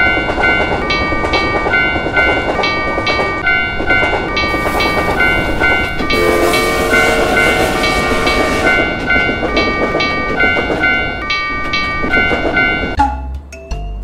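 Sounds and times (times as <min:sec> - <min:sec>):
railroad crossing alarm ringing: 0:00.0 - 0:13.0
passing train rumble: 0:00.0 - 0:13.4.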